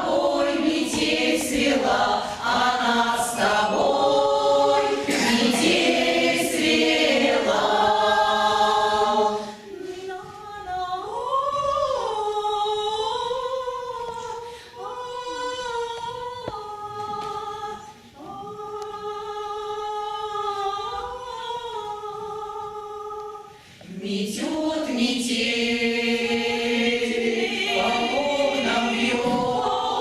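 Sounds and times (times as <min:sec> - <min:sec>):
choir singing a cappella: 0:00.0 - 0:30.0.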